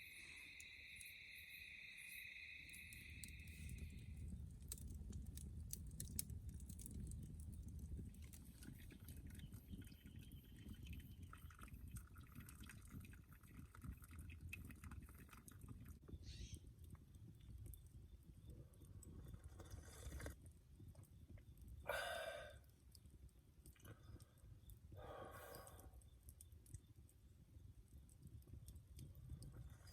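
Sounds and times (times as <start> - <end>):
small clicks and crackles: 2.7 - 21.8, 22.6 - 29.9.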